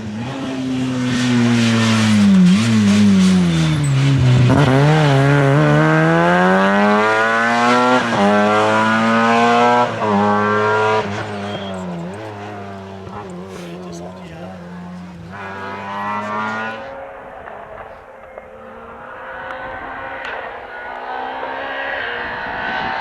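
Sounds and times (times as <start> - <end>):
gear upshifts: 0.0 - 18.5
rally car engine at high revs: 0.0 - 23.0.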